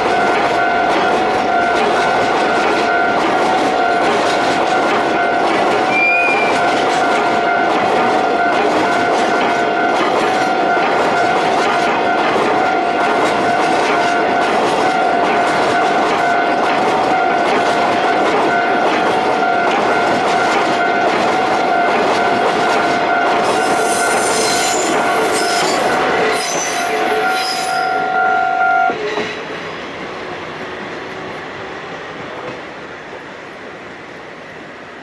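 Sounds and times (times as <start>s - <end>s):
train wheels clattering and squealing: 0.0s - 28.3s, 28.9s - 30.1s
steady high tone: 0.0s - 28.9s.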